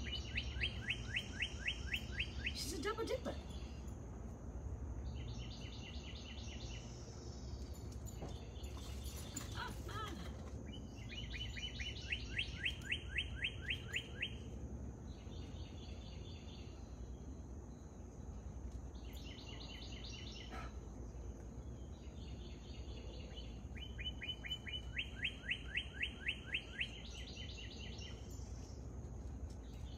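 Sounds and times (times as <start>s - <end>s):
songbirds singing: 0.0s - 29.9s.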